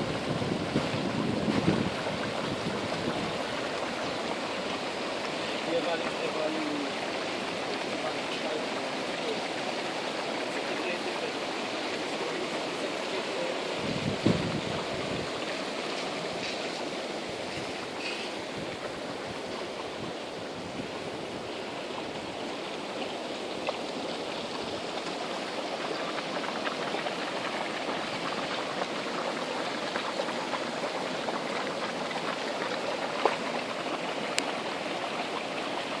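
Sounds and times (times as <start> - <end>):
hot spring hissing and bubbling: 0.0 - 36.0.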